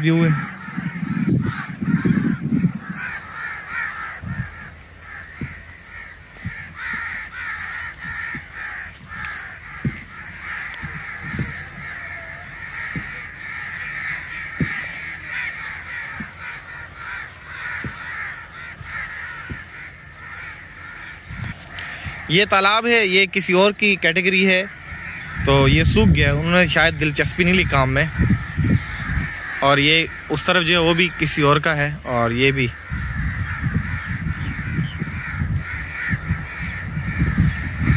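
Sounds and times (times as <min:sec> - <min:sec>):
crows cawing: 0:00.0 - 0:37.9.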